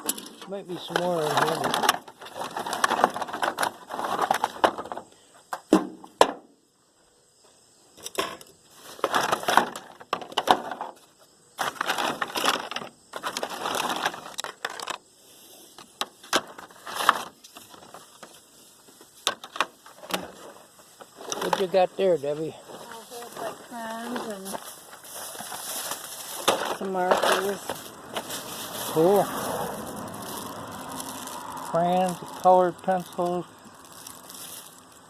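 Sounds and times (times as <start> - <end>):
objects rummaged in a box: 0.0 - 5.1, 8.2 - 15.0, 15.7 - 35.0.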